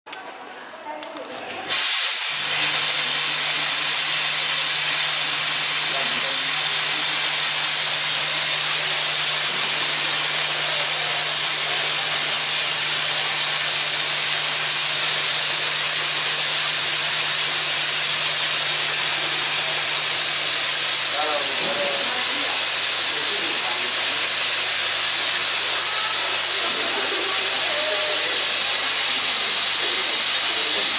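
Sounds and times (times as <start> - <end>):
fog jetting out with hiss: 1.7 - 30.9.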